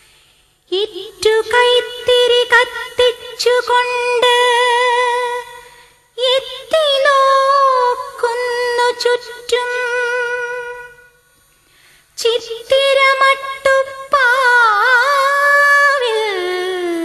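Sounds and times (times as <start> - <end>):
woman singing wordless held notes: 0.7 - 11.2, 12.2 - 17.0.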